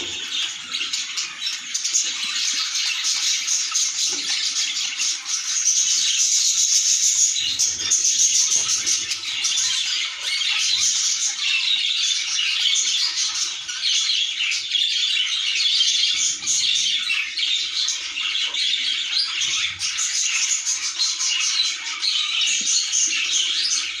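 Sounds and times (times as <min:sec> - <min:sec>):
budgerigars chirping and chattering: 0:00.0 - 0:24.0.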